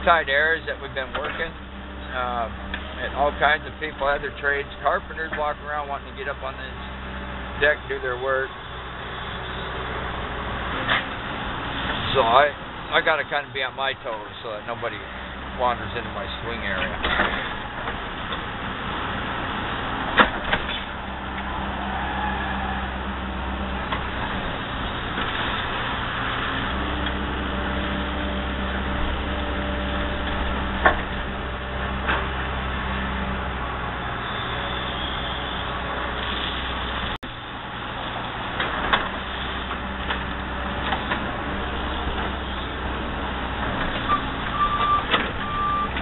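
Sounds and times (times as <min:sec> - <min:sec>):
excavator diesel engine under load: 0:00.0 - 0:46.0.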